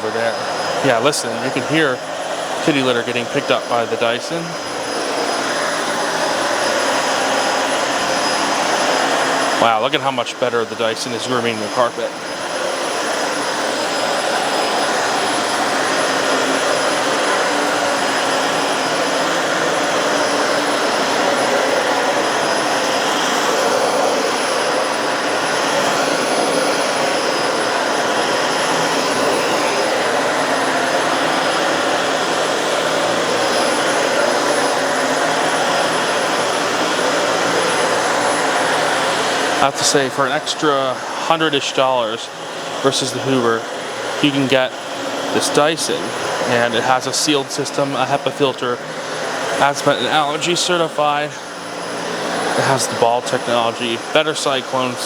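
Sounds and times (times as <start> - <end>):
vacuum cleaner on carpet: 0.0 - 55.0.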